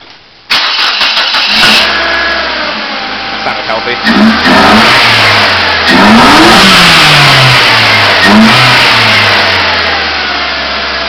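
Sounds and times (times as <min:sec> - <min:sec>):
car engine revving: 0:00.5 - 0:11.0.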